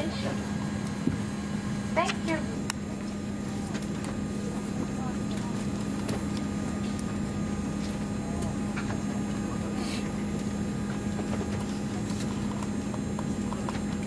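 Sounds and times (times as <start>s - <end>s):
low cabin hum: 0.0s - 14.0s.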